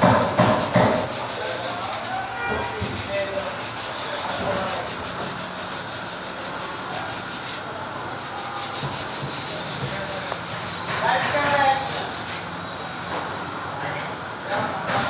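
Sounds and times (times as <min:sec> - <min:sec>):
tool rasping scrape: 0:00.0 - 0:12.6.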